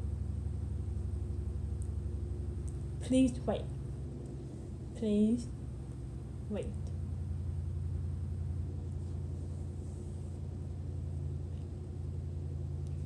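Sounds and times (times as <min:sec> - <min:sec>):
faint high whine: 0:00.0 - 0:13.0
low room hum: 0:00.0 - 0:13.0.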